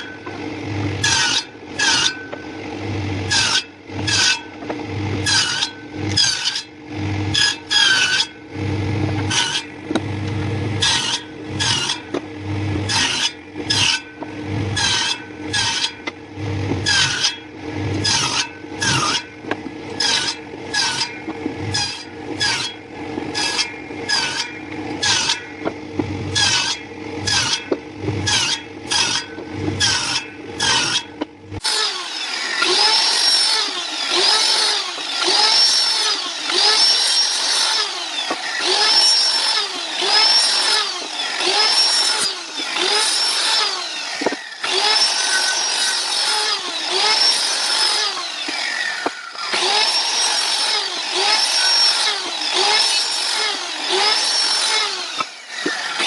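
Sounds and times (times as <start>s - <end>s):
hand saw cutting wood: 0.0s - 56.0s
rasp scraping wood: 0.0s - 56.0s.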